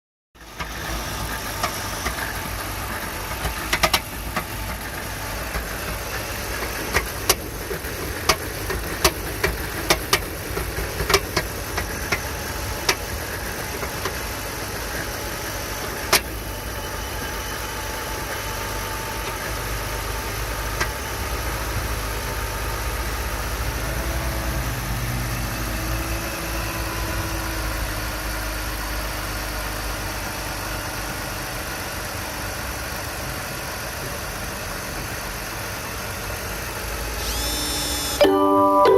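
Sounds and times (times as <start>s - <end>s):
engine running steadily: 0.4s - 38.2s.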